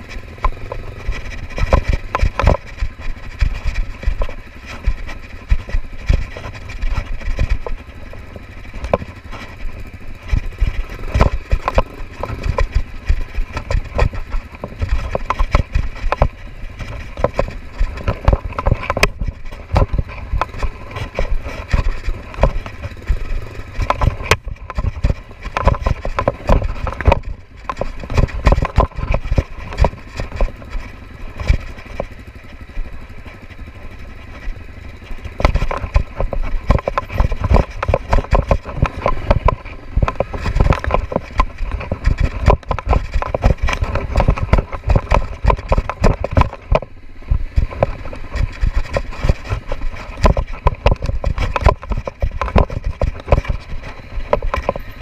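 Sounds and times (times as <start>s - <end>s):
bike knocking and rattling on stones: 0.0s - 55.0s
motorcycle engine running slowly: 0.0s - 55.0s.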